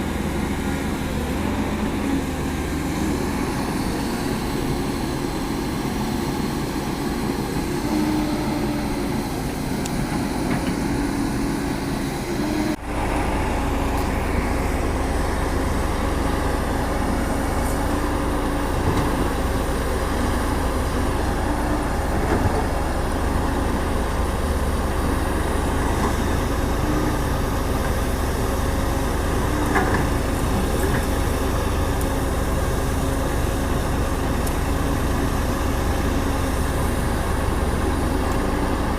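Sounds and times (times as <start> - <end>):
excavator diesel engine rumbling: 0.0 - 38.9.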